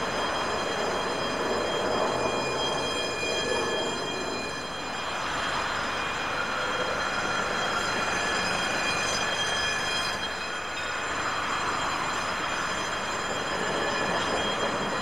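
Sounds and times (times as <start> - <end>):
steady high-pitched tones: 0.0 - 15.0.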